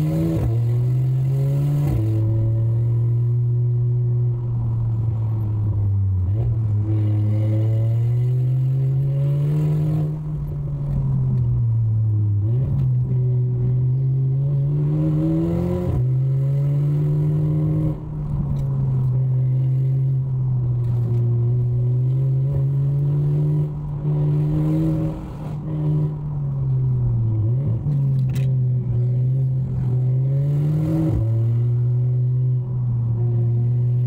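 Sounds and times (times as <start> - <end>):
car engine droning: 0.0 - 34.0.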